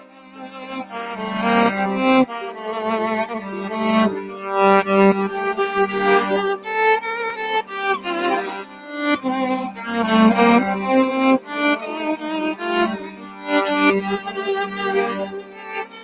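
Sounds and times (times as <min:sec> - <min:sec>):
looped violin melody: 0:00.0 - 0:16.0.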